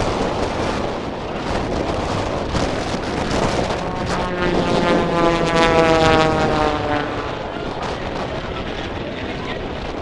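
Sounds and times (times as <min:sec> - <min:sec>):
propeller planes droning past: 0:00.0 - 0:10.0
steady rushing noise: 0:00.0 - 0:10.0.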